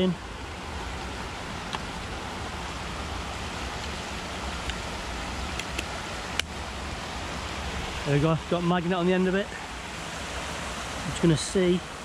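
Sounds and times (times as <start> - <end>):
river water pouring over a weir: 0.0 - 12.0.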